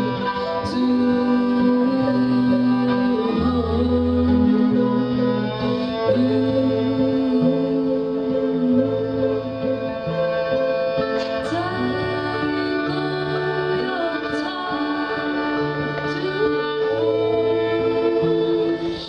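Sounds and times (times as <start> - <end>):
bass line: 0.0 - 19.0
person singing: 0.0 - 19.0
string instruments: 0.0 - 19.0.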